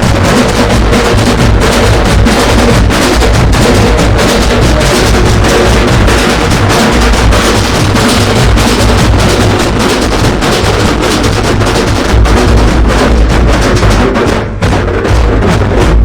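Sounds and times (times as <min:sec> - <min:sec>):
heavy continuous drumming: 0:00.0 - 0:16.0
loud music: 0:00.0 - 0:16.0.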